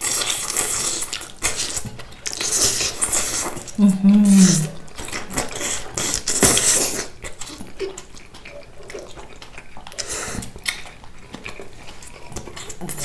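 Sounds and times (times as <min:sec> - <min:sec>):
slurping noodles: 0:00.0 - 0:10.9.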